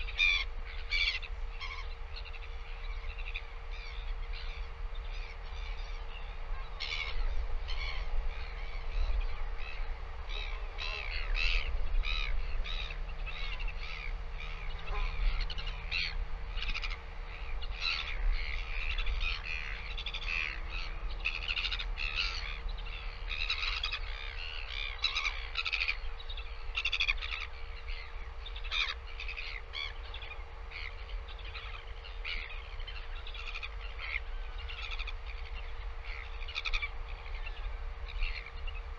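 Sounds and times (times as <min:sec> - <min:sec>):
birds calling: 0:00.0 - 0:38.9
faint hum: 0:00.0 - 0:38.9.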